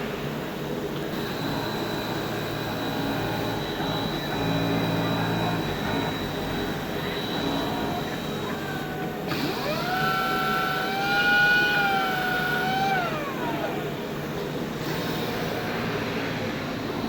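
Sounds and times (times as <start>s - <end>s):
motor whine: 0.6s - 17.0s
fabric cutting machine running: 1.1s - 17.0s.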